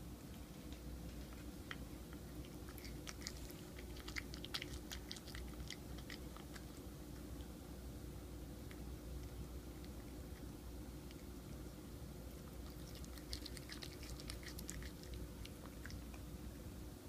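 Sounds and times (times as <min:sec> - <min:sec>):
cat chewing meat: 0:01.0 - 0:16.6.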